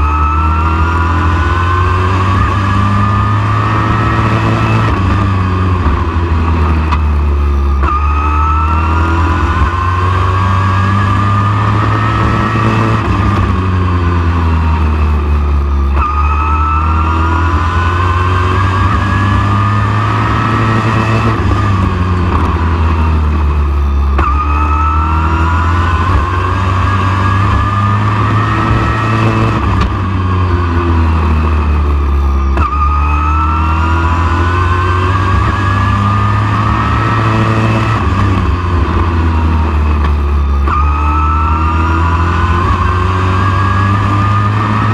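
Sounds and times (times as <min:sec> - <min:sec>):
race engine revving: 0:00.0 - 0:44.9.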